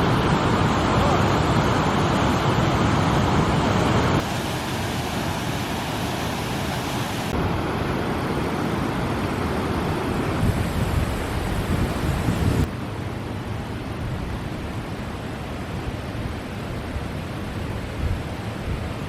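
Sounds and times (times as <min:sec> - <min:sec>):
fast river water rushing: 0:00.0 - 0:19.0.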